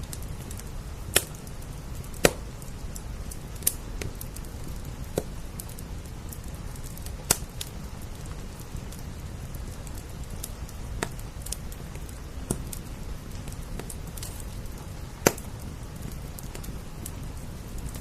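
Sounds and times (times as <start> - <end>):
rain: 0.0 - 18.0
wood fire crackling: 0.0 - 18.0.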